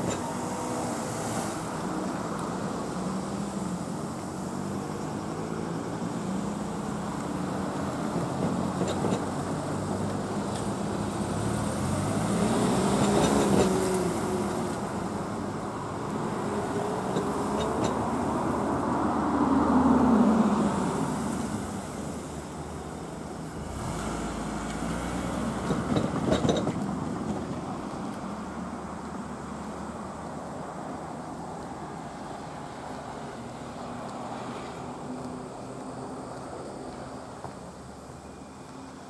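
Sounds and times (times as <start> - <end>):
cars passing slowly: 0.0 - 39.0.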